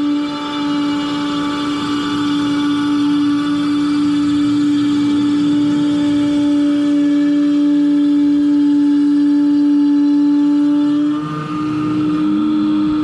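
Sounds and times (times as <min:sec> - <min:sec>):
wood router whining: 0:00.0 - 0:13.0.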